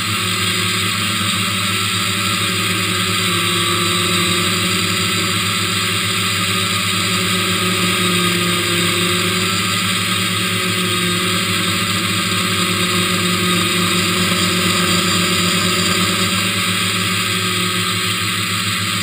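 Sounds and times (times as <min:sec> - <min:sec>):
drone motors buzzing: 0:00.0 - 0:19.0.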